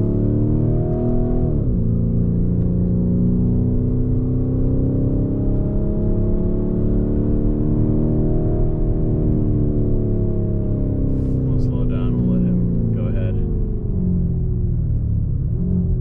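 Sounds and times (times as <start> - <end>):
car engine accelerating: 0.0 - 16.0
road rumble: 0.0 - 16.0.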